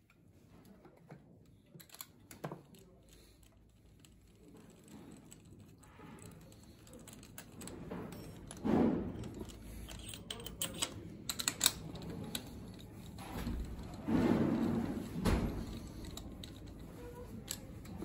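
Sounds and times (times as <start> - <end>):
metallic clicks and rattles: 1.6 - 18.0.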